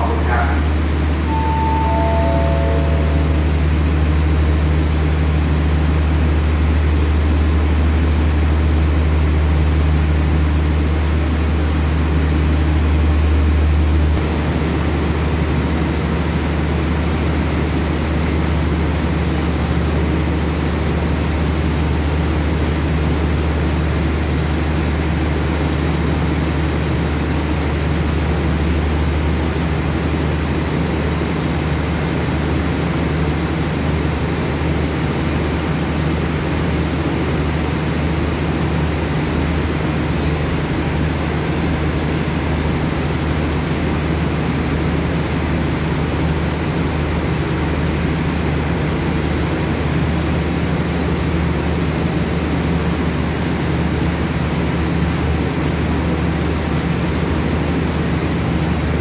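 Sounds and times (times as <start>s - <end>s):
train diesel engines idling: 0.0s - 59.0s.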